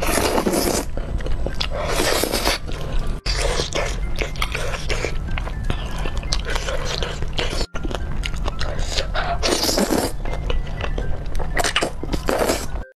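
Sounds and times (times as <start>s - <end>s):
person slurping and chewing noodles: 0.0s - 12.8s
background music: 0.0s - 13.0s.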